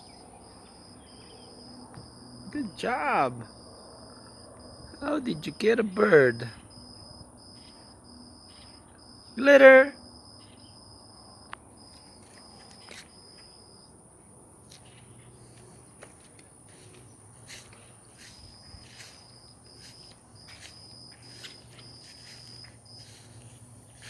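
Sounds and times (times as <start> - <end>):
insects trilling and chirping: 0.0 - 24.0.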